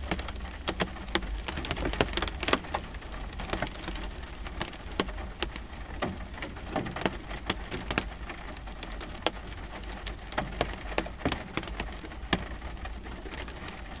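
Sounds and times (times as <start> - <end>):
low steady rumble: 0.0 - 14.0
raindrops tapping on windshield: 0.0 - 14.0.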